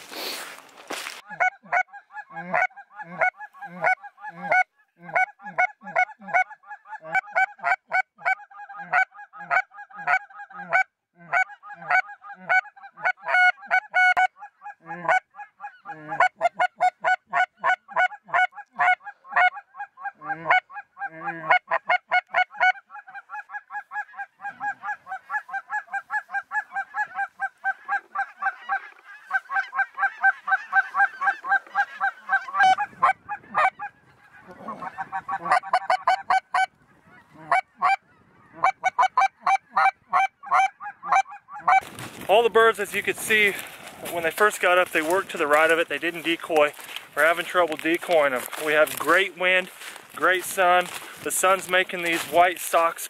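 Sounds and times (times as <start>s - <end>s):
geese honking: 0.0s - 53.0s.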